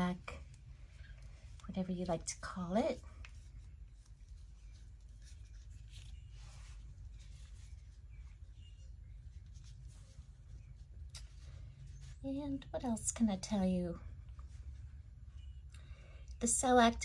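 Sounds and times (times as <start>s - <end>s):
faint scratchy rustles: 0.0s - 16.0s.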